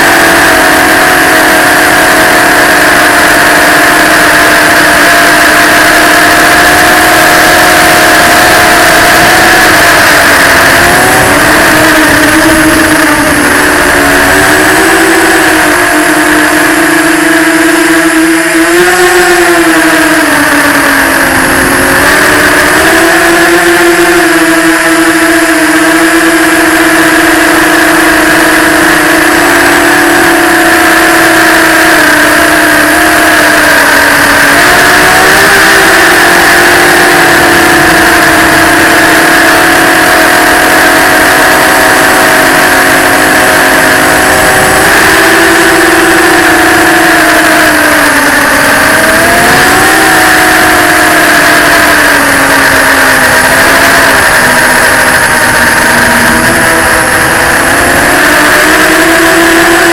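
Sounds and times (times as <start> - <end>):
drone motors buzzing: 0.0 - 59.9.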